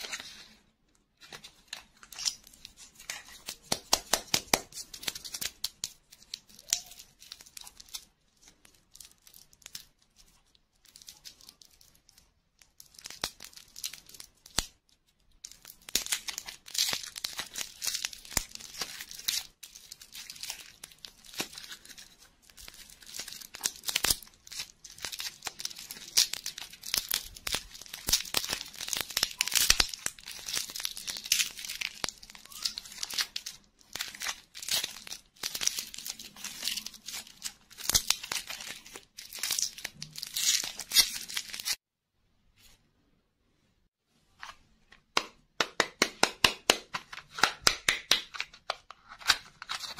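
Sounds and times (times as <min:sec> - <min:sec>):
plastic wrapper crinkling: 0:00.0 - 0:41.8, 0:47.0 - 0:49.9.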